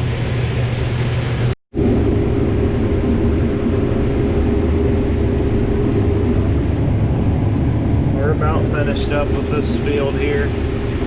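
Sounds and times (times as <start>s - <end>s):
combine harvester drone: 0.0s - 11.0s
higher hum: 0.0s - 11.0s.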